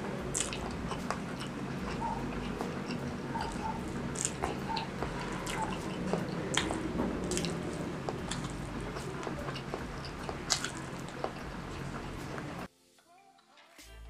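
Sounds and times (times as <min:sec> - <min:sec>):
mouth clicks: 0:00.0 - 0:12.6
wet chewing with smacking: 0:00.0 - 0:12.7.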